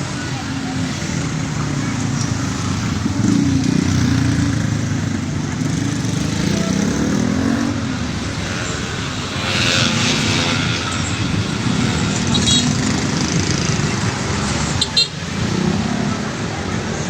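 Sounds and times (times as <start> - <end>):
motorcycle engine rumbling: 0.0 - 17.0
road noise: 0.0 - 17.0.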